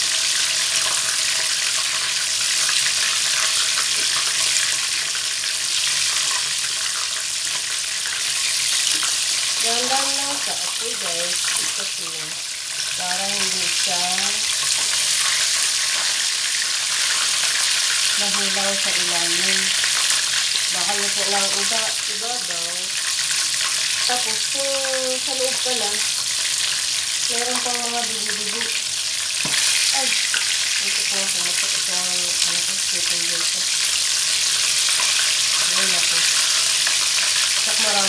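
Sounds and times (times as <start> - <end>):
chicken sizzling in hot oil: 0.0 - 38.0.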